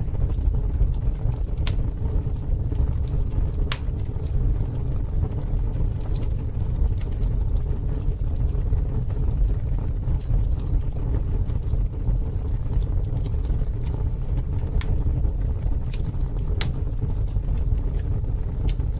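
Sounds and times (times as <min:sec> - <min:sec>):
campfire flames rumbling: 0:00.0 - 0:18.9
fire crackles and pops: 0:00.0 - 0:18.9.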